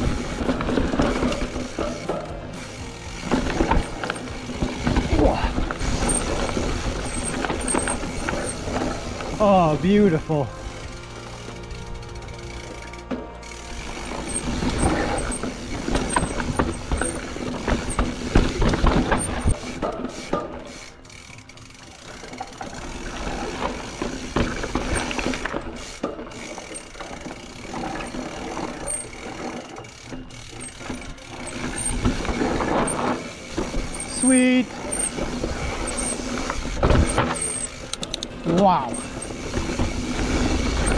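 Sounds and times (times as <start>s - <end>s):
freehub ratcheting: 0.0s - 9.5s, 10.5s - 40.9s
bike chain and frame rattling: 0.0s - 40.9s.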